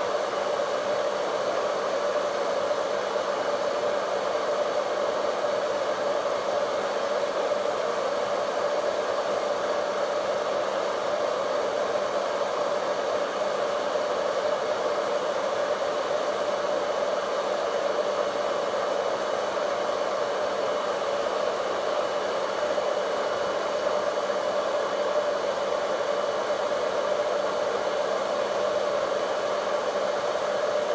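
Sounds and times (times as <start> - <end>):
hair dryer running: 0.0 - 30.9.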